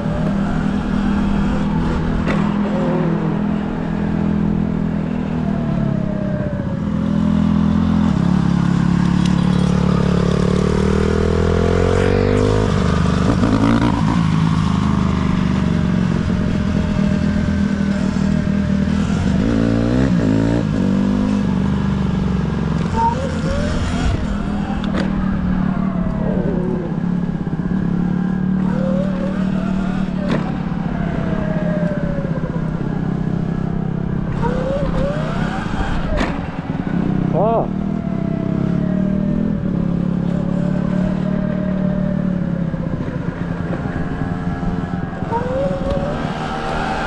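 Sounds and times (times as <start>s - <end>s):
motorcycle engine running: 0.0s - 47.0s
other motorcycles revving: 0.0s - 47.0s.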